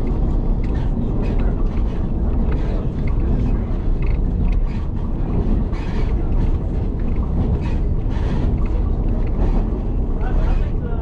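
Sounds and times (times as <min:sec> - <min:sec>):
train rumbling on rails: 0:00.0 - 0:11.0
wind buffeting microphone: 0:00.0 - 0:11.0.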